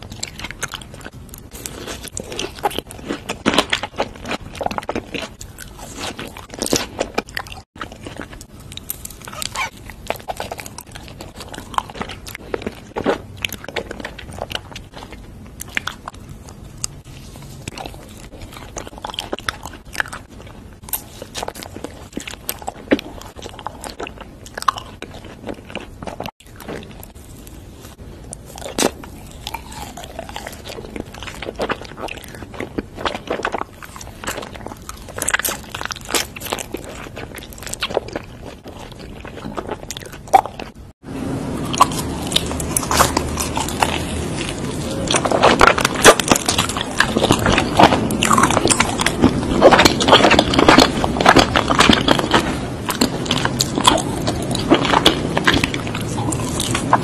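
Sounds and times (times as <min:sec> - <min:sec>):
person chewing: 0:00.0 - 0:57.0.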